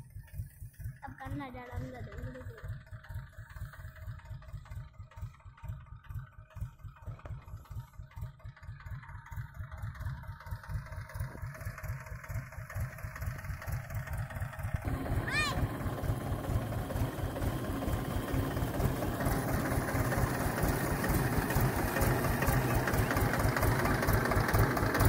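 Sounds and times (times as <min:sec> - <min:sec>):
tractor diesel engine idling: 0:00.0 - 0:25.0.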